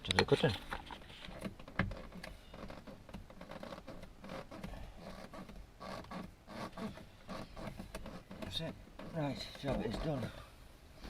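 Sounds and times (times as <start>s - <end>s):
handling clicks and scraping: 0.0s - 10.3s.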